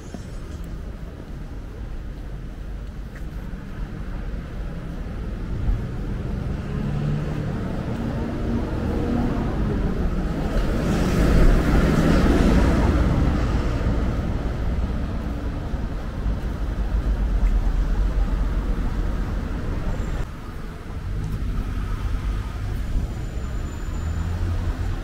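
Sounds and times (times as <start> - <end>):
car engines in traffic: 0.0 - 25.0.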